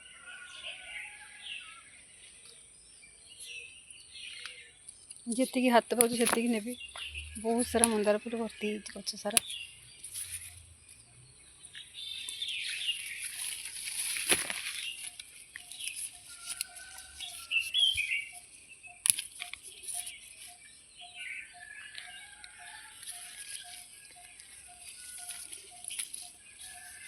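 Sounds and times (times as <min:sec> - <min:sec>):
birds chirping: 0:00.7 - 0:27.0
leaves and stems rustling: 0:05.1 - 0:27.0.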